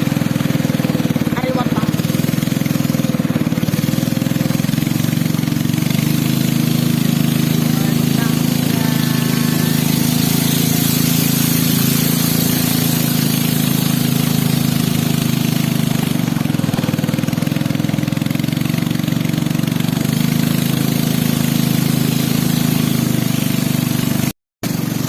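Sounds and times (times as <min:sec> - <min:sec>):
small engine chugging: 0:00.0 - 0:25.0.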